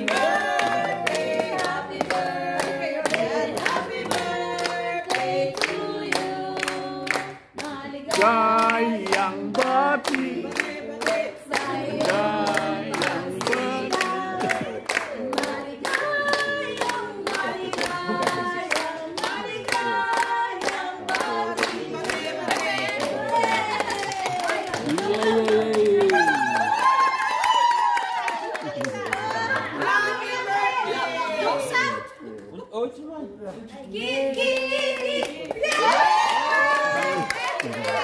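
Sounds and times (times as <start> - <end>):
group singing a birthday song: 0.0 - 26.2, 28.6 - 32.0, 34.0 - 38.0
people clapping in time: 0.0 - 30.4, 34.2 - 38.0.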